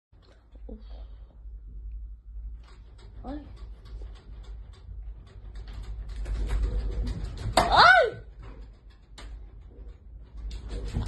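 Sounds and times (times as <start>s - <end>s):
earthquake rumble shaking building: 1.1s - 11.0s.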